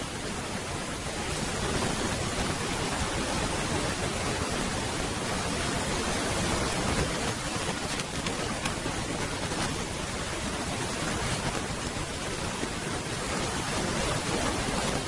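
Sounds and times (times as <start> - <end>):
steady rushing hiss: 0.0 - 15.0.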